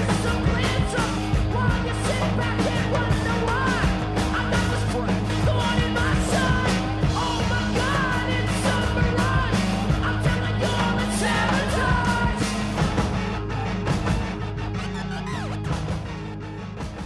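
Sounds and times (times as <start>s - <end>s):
driving drum beat: 0.0s - 17.0s
rock song with shouted vocals: 0.0s - 17.0s.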